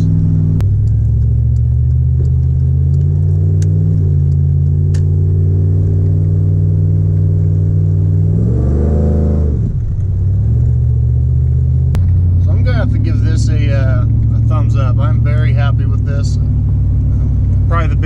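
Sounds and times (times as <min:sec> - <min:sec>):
truck engine under heavy throttle: 0:00.0 - 0:18.0.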